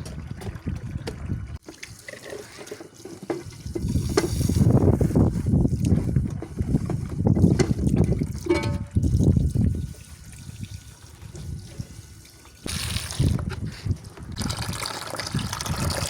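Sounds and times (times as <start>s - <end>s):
dishes being washed: 0.0s - 16.0s.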